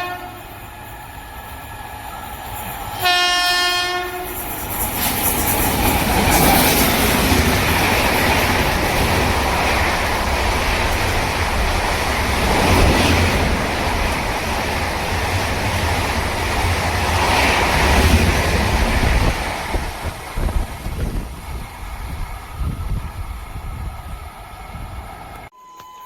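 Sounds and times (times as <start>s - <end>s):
train passing at speed: 0.0s - 25.5s
wind buffeting microphone: 4.6s - 25.5s.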